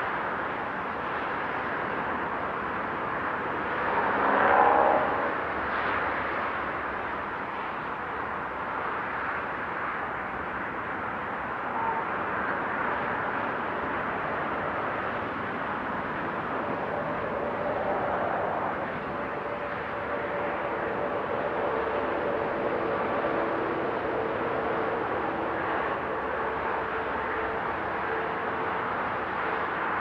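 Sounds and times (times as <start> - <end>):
passing lorry drone: 2.5 - 7.4, 10.7 - 30.0.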